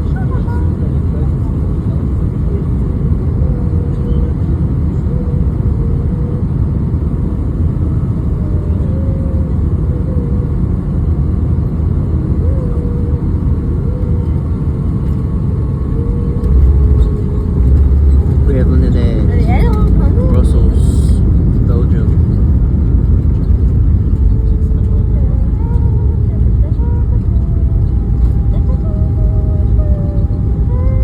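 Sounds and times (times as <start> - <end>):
airliner cabin engine rumble: 0.0 - 31.0
faint wavering whine: 0.0 - 31.0.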